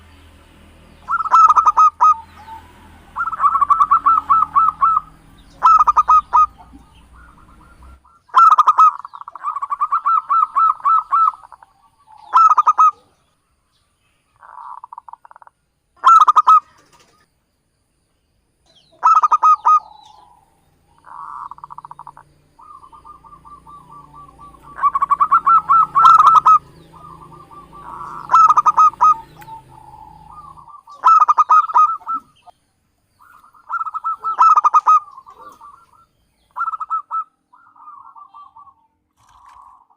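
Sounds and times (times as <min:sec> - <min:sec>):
doves cooing: 0:01.0 - 0:13.3, 0:14.3 - 0:17.3, 0:18.9 - 0:32.6, 0:33.2 - 0:39.9.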